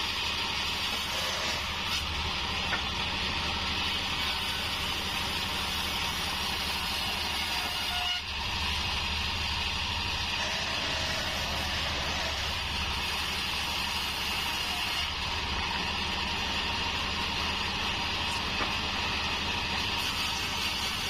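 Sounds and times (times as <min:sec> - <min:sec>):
bandsaw mill droning: 0:00.0 - 0:21.0.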